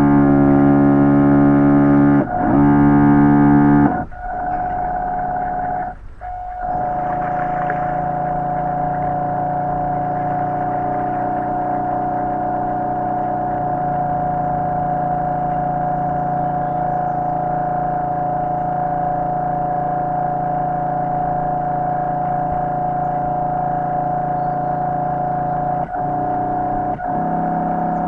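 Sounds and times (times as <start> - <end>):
synthesizer drone chords: 0.0 - 28.0.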